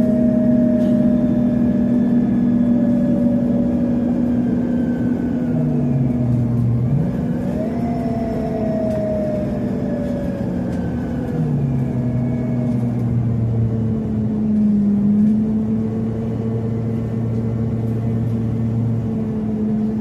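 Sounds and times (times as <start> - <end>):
bus engine hum: 0.0 - 20.0
road noise: 0.0 - 20.0.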